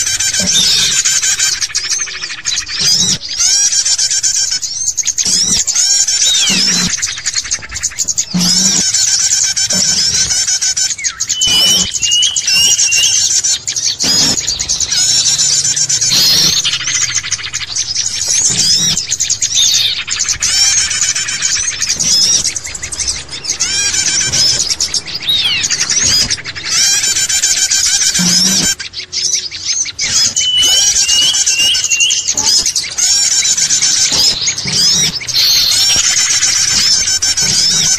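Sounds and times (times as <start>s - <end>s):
small birds chirping and whistling: 0.0s - 37.9s.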